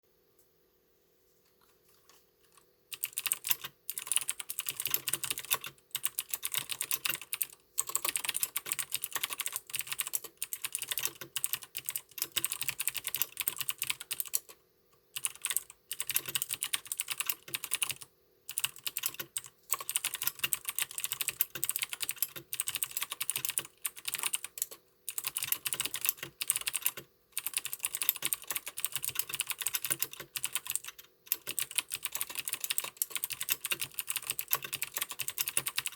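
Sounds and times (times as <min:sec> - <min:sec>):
mechanical keyboard typing: 0:02.4 - 0:14.6, 0:15.2 - 0:35.9.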